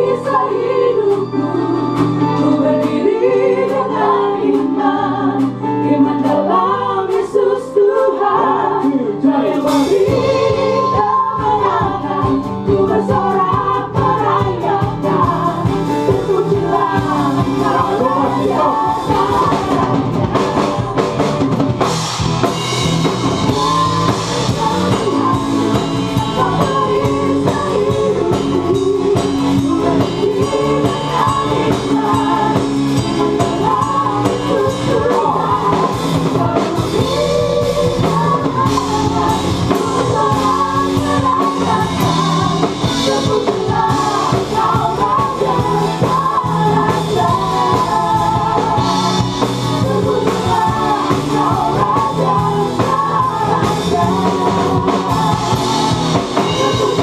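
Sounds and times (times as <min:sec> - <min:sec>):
women singing together: 0:00.0 - 0:21.5, 0:23.0 - 0:57.0
band playing: 0:00.0 - 0:57.0.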